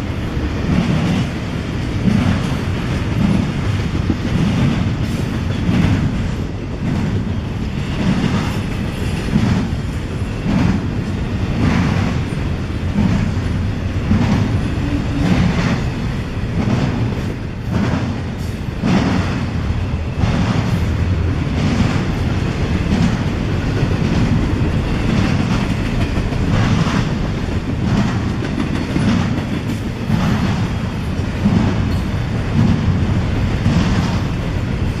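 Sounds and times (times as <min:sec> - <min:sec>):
low train rumble: 0:00.0 - 0:35.0
train wheels clicking over rail joints: 0:00.0 - 0:35.0.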